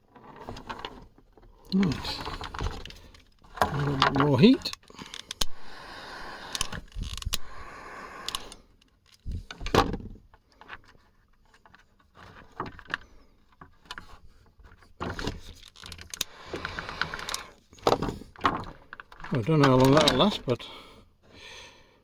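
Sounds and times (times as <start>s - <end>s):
handling clicks and knocks: 0.1s - 5.6s, 8.3s - 20.6s.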